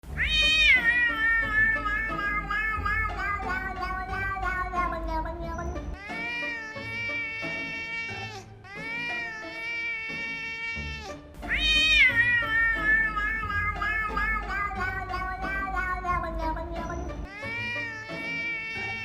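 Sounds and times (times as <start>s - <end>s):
background music: 0.0s - 19.0s
cat meowing: 0.1s - 19.0s.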